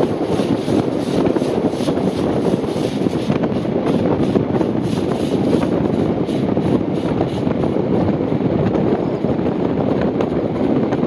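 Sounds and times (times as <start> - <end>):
steam locomotive running: 0.0 - 11.0
train wheels on rail: 0.0 - 11.0
wind buffeting microphone: 0.0 - 11.0.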